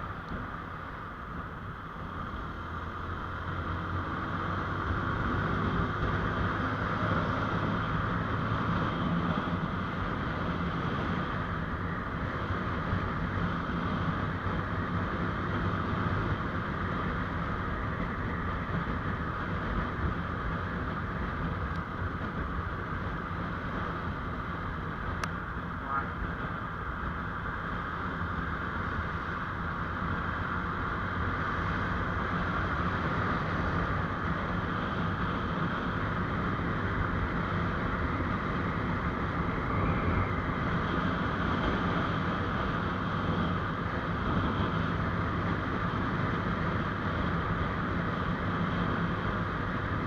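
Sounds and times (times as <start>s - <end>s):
wind and road noise: 0.0s - 50.0s.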